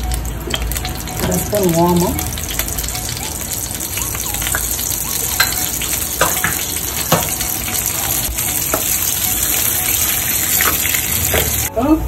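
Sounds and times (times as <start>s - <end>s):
spices sizzling in hot oil: 0.0s - 11.7s.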